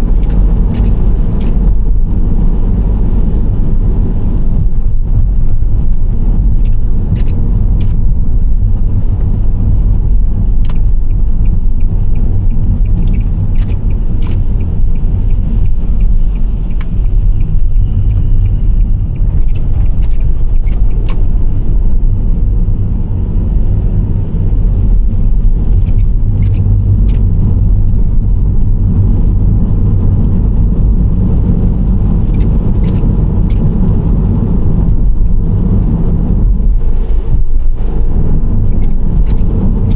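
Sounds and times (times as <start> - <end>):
minivan road rumble: 0.0 - 39.9.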